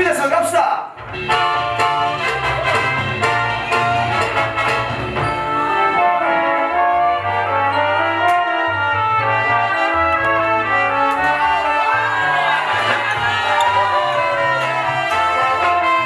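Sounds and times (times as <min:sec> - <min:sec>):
funk music with brass and bass: 0:01.0 - 0:16.0.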